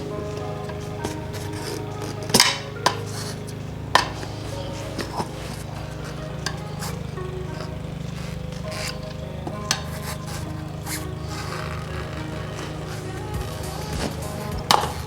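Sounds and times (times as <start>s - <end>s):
tire irons clinking on rim: 0.0s - 15.0s.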